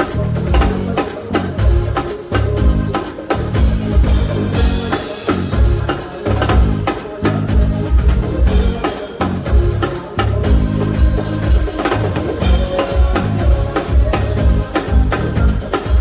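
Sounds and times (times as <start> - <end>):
drum kit beat: 0.0 - 16.0
live band instrumental: 0.0 - 16.0
pulsing bass line: 0.0 - 16.0.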